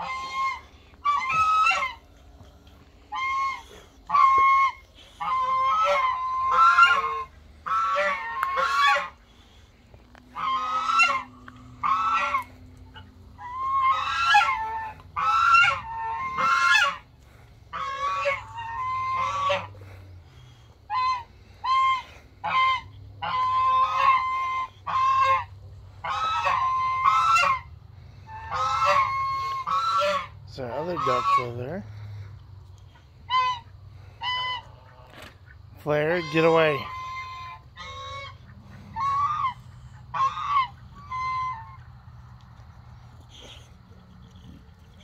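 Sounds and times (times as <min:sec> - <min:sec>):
geese honking: 0:00.0 - 0:45.0.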